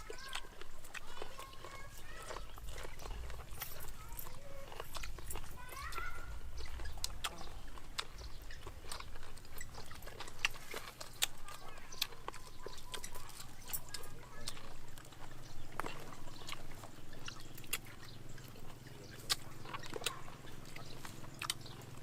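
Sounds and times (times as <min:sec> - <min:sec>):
person chewing and smacking: 0:00.0 - 0:22.0.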